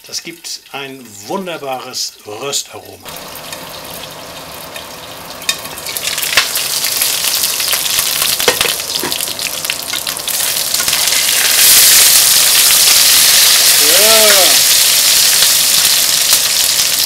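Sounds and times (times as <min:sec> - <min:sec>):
onions sizzling in a pan: 0:02.7 - 0:17.0.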